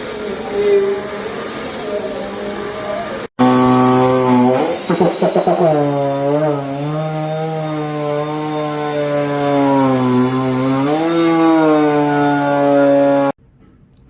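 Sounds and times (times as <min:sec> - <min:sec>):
vacuum cleaner motor drone: 0:00.0 - 0:13.4.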